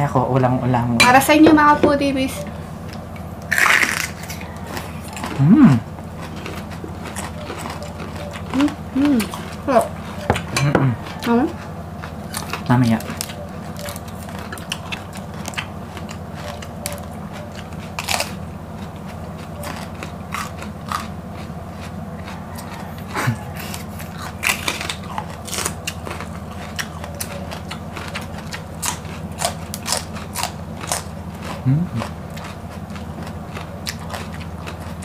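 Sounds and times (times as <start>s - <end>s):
low hum: 0.0s - 35.0s
crunching bell pepper: 2.9s - 35.0s.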